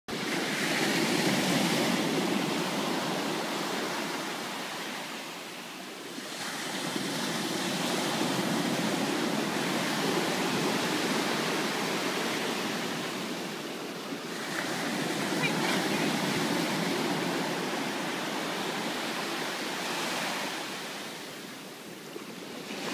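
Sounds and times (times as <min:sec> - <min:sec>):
surf breaking on a beach: 0:00.1 - 0:22.9.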